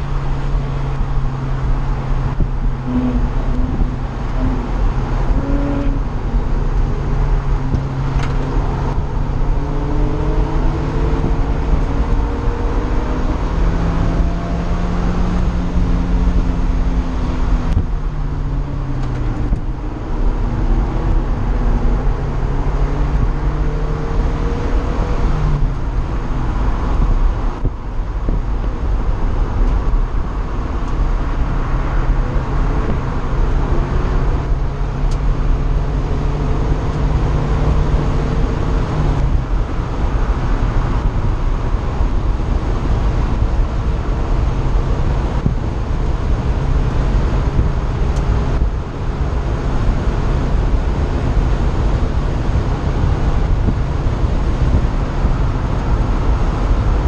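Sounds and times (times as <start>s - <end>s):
car engine revving: 0.0s - 57.0s
wind and road noise: 0.0s - 57.0s.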